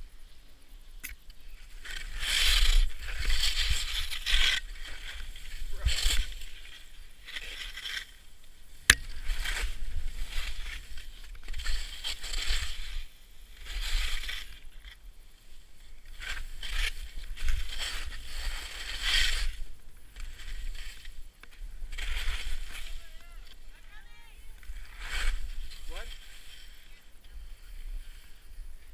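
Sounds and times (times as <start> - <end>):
skis hissing and scraping on snow: 0.0 - 28.9.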